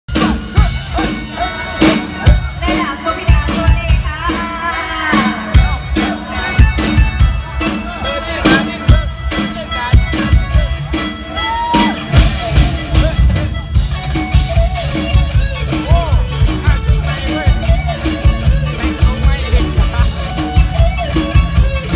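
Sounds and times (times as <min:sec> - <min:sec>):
drum kit beat: 0:00.1 - 0:21.9
live band music through pa: 0:00.1 - 0:21.9.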